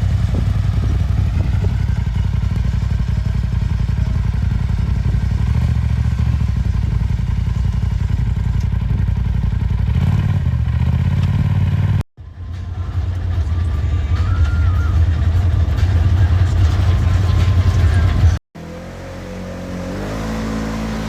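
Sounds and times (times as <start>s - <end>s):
off-road vehicle engine: 0.0s - 21.0s.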